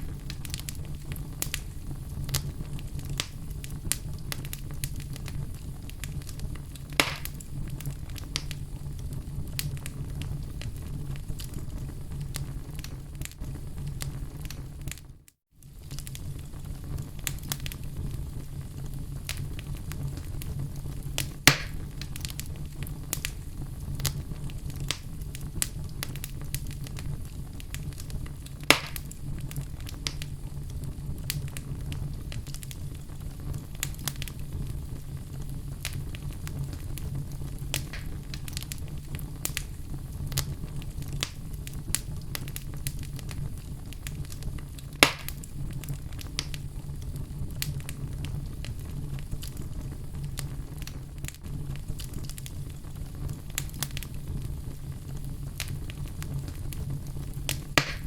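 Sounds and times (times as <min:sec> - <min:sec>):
fire crackling: 0:00.0 - 0:58.0
fire popping: 0:00.0 - 0:58.0.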